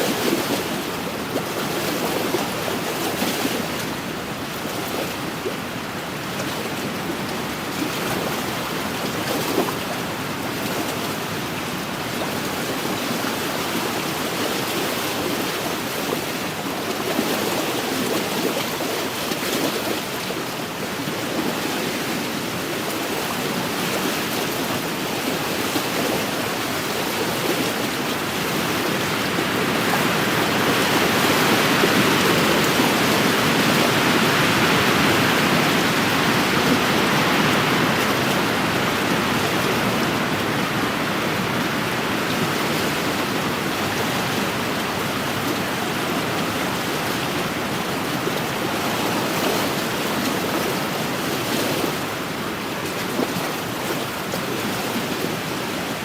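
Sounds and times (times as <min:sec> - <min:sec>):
waves washing against shore: 0:00.0 - 0:56.0.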